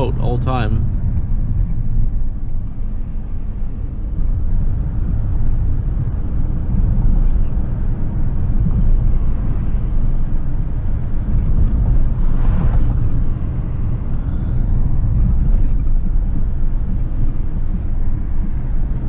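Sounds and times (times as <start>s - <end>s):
vehicle road and engine rumble: 0.0s - 19.0s.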